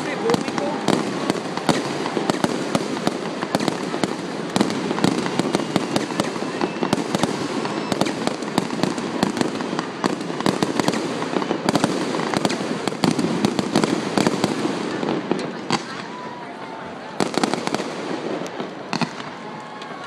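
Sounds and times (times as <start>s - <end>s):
fireworks bursts and bangs: 0.0s - 20.0s.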